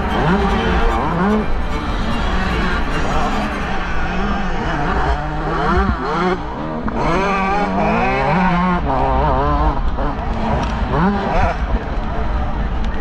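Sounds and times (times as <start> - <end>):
motocross engine revving: 0.0 - 12.6.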